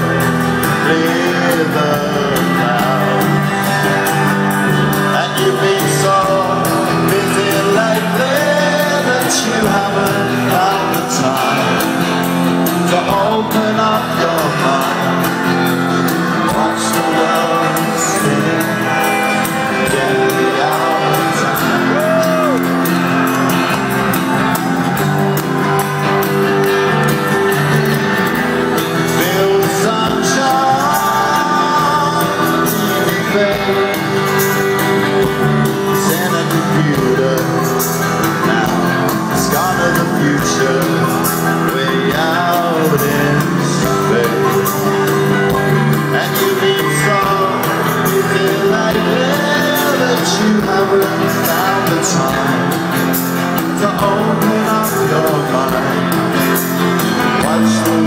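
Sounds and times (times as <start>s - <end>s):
drums: 0.0s - 58.0s
electric guitars: 0.0s - 58.0s
live rock band: 0.0s - 58.0s
person singing: 0.0s - 58.0s.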